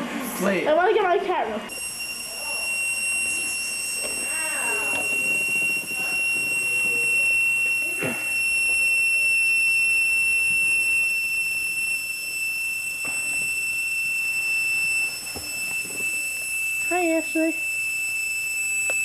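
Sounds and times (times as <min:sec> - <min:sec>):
high-pitched electronic whine: 0:01.7 - 0:19.0.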